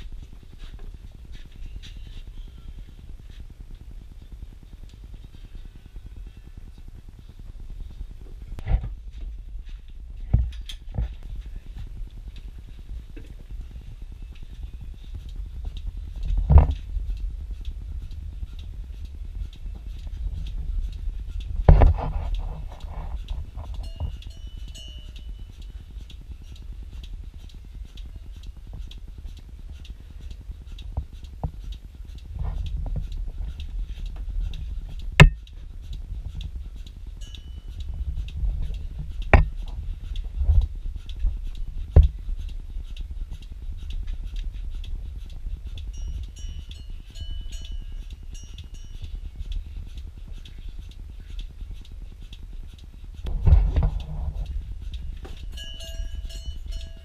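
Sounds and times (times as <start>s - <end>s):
pulsator fast ticking: 10.9s - 57.0s.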